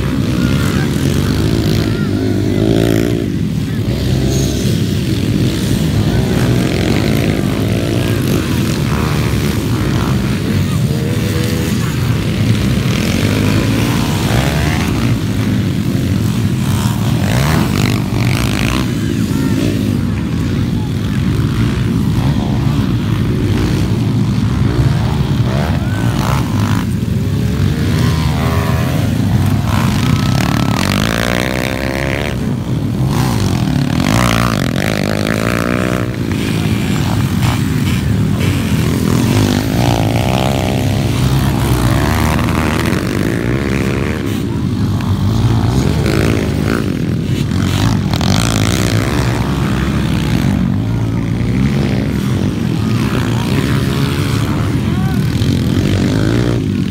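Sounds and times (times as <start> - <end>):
motorcycle engines racing: 0.0 - 56.9.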